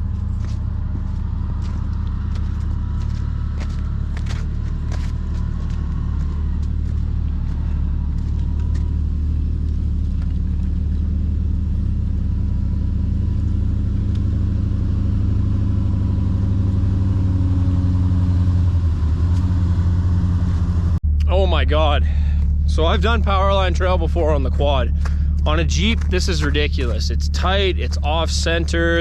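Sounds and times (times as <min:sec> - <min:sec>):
engine running at low revs: 0:00.0 - 0:29.0.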